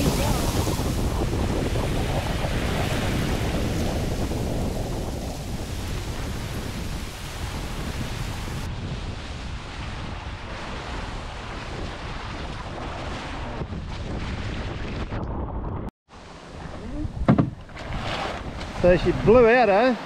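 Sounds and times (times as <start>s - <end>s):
rushing water: 0.0s - 14.8s, 16.1s - 20.0s
gusty wind buffeting microphone: 0.0s - 20.0s.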